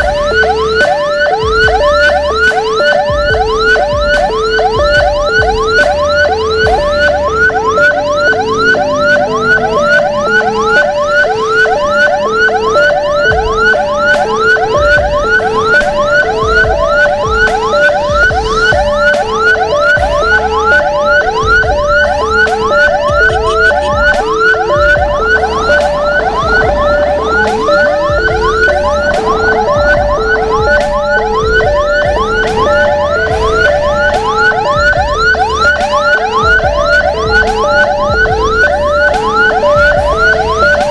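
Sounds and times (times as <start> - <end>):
pulsing low siren tone: 0.0 - 40.9
siren fast yelp: 0.0 - 40.9.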